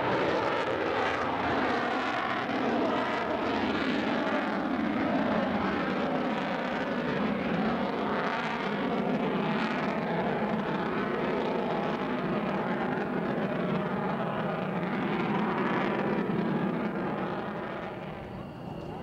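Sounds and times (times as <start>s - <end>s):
jet engines roaring overhead: 0.0s - 19.0s.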